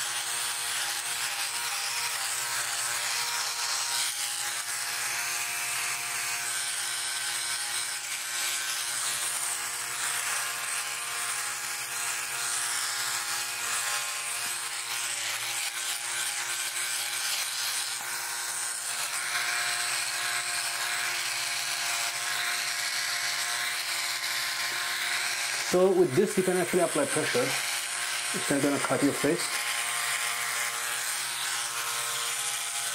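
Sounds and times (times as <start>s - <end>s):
electric trimmer buzzing: 0.0s - 32.9s.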